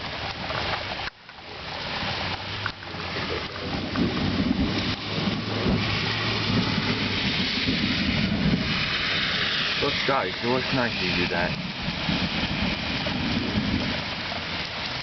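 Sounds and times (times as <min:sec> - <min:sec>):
rain pouring: 0:00.0 - 0:15.0
low thunder rumbling: 0:02.0 - 0:15.0.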